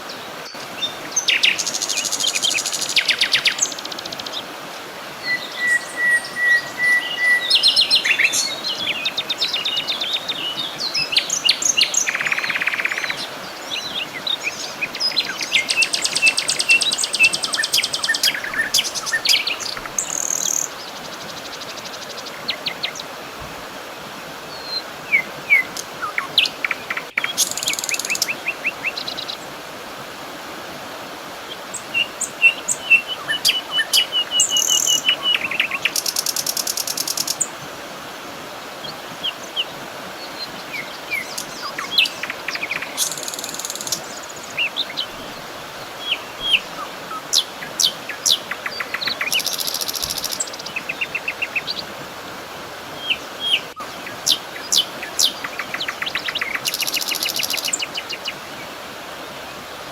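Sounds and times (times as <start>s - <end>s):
songbirds singing and calling: 0.0s - 23.2s, 24.4s - 29.6s, 31.5s - 52.0s, 52.8s - 59.9s
steady background hiss: 0.0s - 59.9s.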